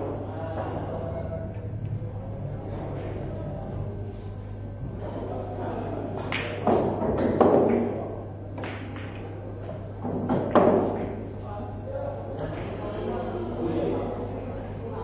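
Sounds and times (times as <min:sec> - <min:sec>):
faint room murmur: 0:00.0 - 0:15.0
steady low hum: 0:00.0 - 0:15.0.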